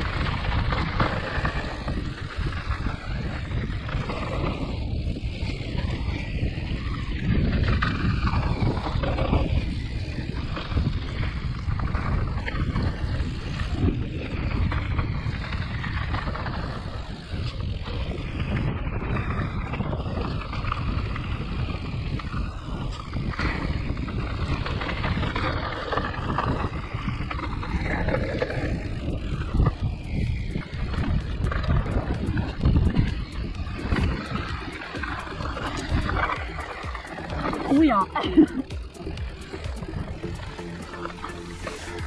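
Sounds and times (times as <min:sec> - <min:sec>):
bike knocking and rattling: 0:00.0 - 0:42.0
tyre rumble: 0:00.0 - 0:42.0
wind buffeting microphone: 0:00.0 - 0:42.0.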